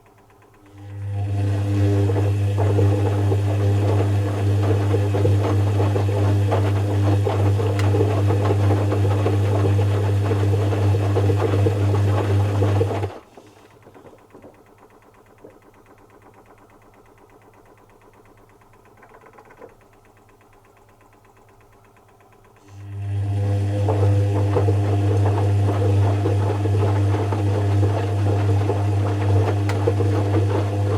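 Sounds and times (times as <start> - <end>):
washing machine hum and rattle: 0.0 - 30.9.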